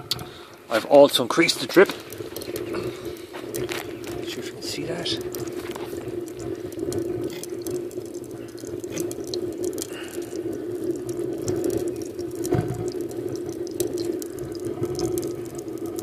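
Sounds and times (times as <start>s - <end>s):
crackles and sputters: 0.0s - 16.0s
flame humming: 0.0s - 16.0s.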